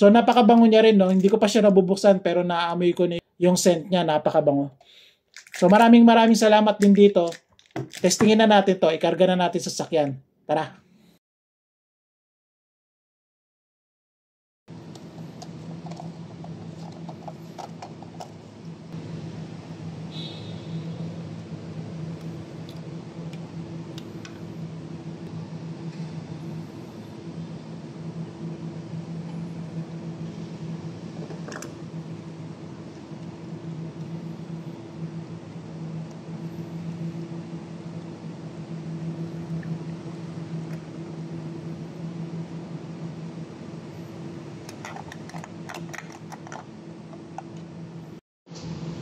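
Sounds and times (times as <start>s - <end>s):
low mechanical hum: 0.0s - 11.2s, 14.7s - 49.0s.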